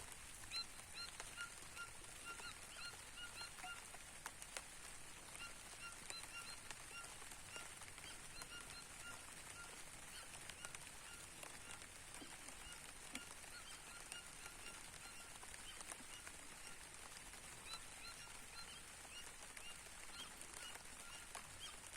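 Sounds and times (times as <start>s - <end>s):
light rain: 0.0s - 21.9s
bird calling nasal notes: 0.4s - 3.9s, 5.2s - 21.9s.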